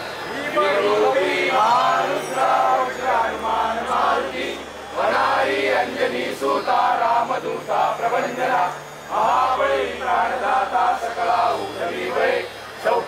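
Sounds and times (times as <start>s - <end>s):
men chanting a prayer in unison: 0.2s - 13.0s.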